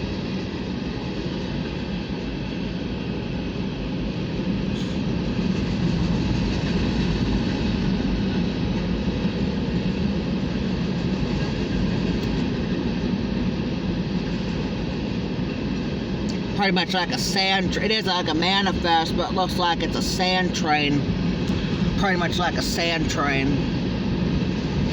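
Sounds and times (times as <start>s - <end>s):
freight train rolling past: 0.0s - 24.9s.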